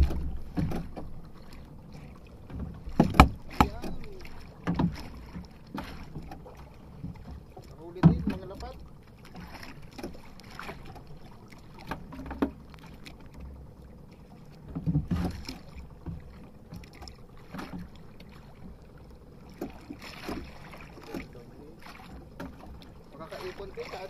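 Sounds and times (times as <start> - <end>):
knocks and rustles of fishing line: 0.0 - 24.0
water lapping against boat: 0.0 - 24.0.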